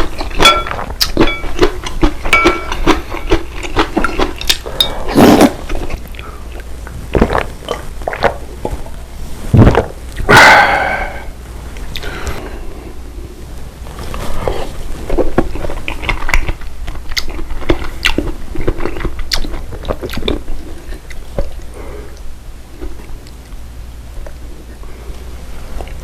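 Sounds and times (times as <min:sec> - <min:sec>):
person chewing crunchy food: 0:00.0 - 0:11.2, 0:13.9 - 0:23.5.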